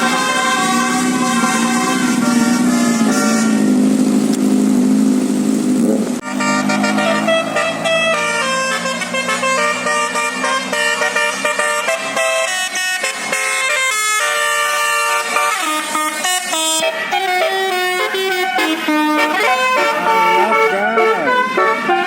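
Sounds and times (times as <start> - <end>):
musical bus air horn playing a tune: 0.0 - 3.9, 6.2 - 22.0.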